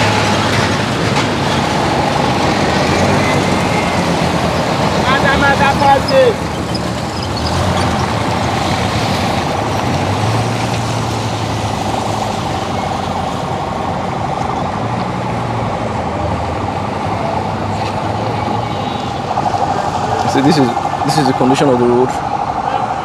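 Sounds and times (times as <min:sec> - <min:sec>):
minibus engines running: 0:00.0 - 0:23.0.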